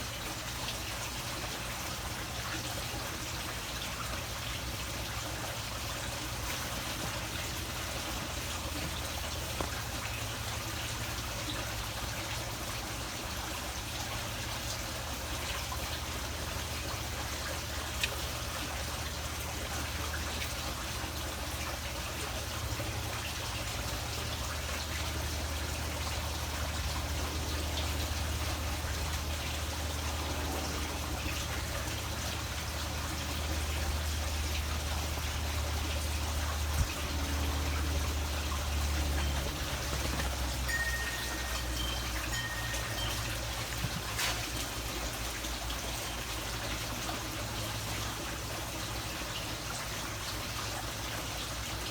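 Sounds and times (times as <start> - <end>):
water trickling: 0.0 - 51.9.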